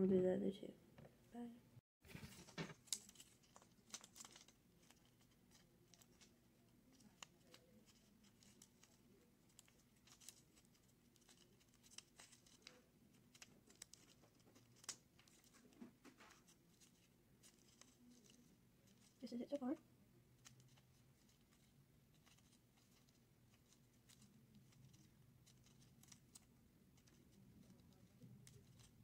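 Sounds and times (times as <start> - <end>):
paper rustling and folding: 2.0 - 19.4, 20.4 - 29.0.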